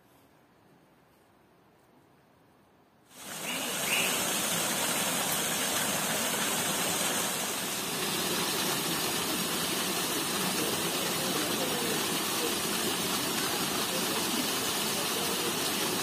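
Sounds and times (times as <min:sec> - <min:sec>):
stream splashing over rocks: 0:03.1 - 0:16.0.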